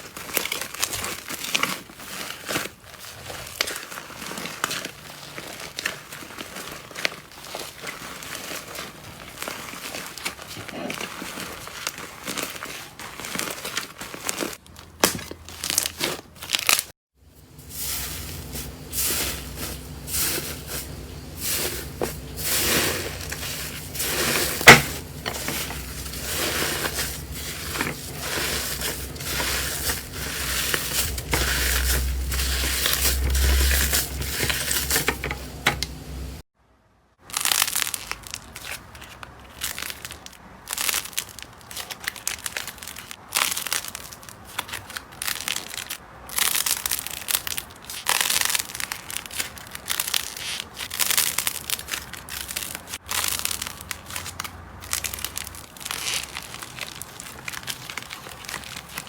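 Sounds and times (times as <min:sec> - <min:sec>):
slime crackling and crinkling: 0:00.0 - 0:36.4, 0:37.2 - 0:59.0.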